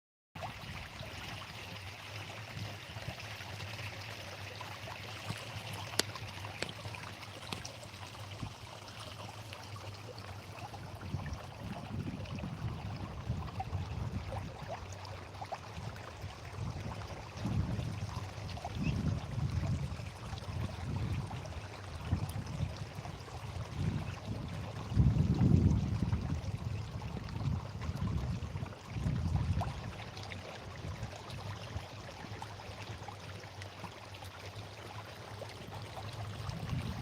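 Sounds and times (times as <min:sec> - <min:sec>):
flowing water rushing: 0:00.4 - 0:37.0.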